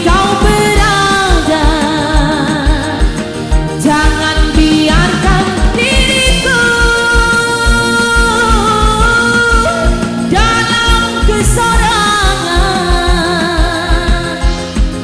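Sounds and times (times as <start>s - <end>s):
held melody with vibrato: 0.0s - 14.8s
steady drum beat: 0.0s - 15.0s.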